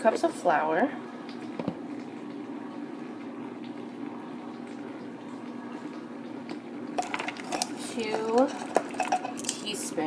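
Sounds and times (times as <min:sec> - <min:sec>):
steady hum and hiss: 0:00.0 - 0:10.0.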